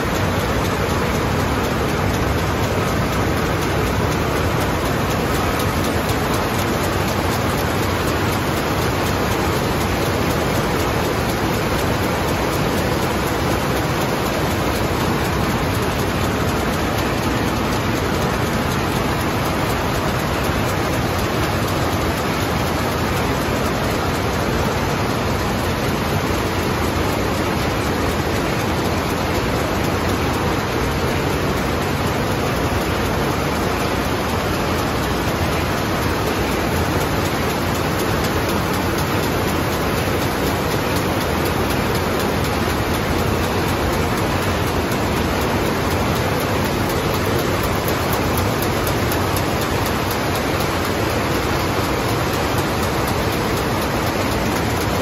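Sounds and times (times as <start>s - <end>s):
loom weaving clatter: 0.0s - 55.0s.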